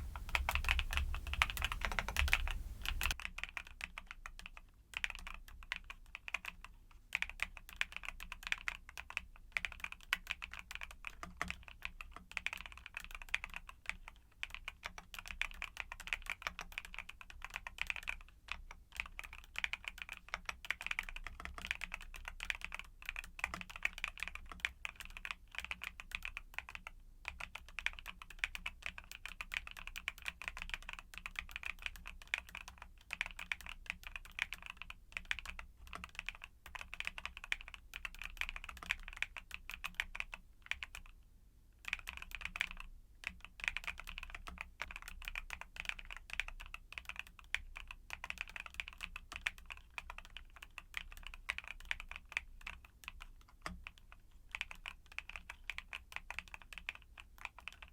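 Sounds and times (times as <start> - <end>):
mechanical keyboard typing: 0.0 - 41.2, 41.8 - 57.9.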